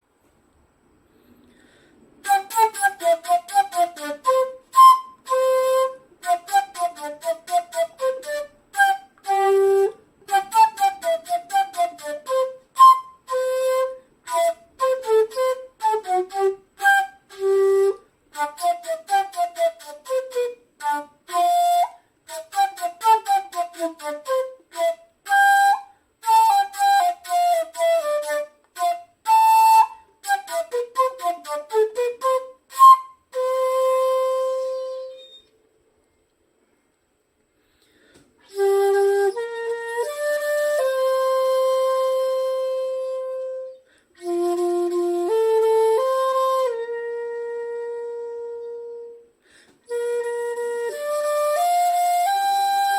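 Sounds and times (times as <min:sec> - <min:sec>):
bamboo flute melody: 0:02.2 - 0:35.6, 0:38.4 - 0:52.9.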